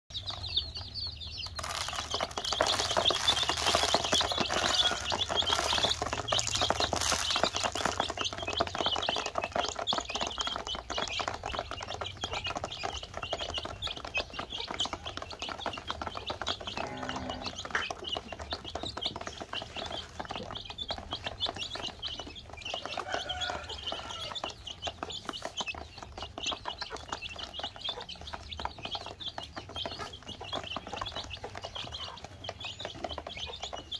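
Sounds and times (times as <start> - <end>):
beaks tapping on plastic basin: 0.1 - 33.9
chicks cheeping: 0.1 - 33.9.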